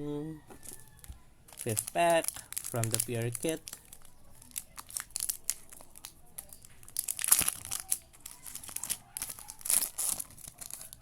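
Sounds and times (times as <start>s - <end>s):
foil wrapper tearing and crinkling: 1.5s - 11.0s.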